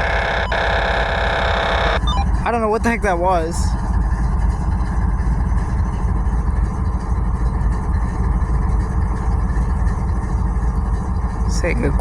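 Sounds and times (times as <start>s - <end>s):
diesel locomotive idling: 0.0s - 12.0s.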